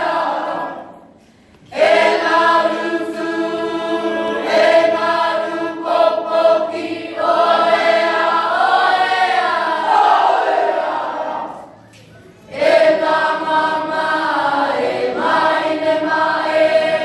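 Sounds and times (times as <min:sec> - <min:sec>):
choir singing: 0:00.0 - 0:11.8, 0:12.4 - 0:17.0.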